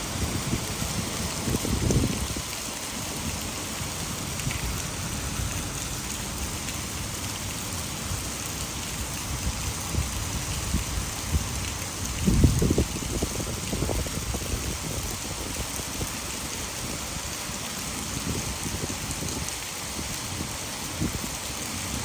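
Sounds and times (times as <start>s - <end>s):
heavy rain: 0.0s - 22.0s
water pouring over dam: 0.0s - 22.0s.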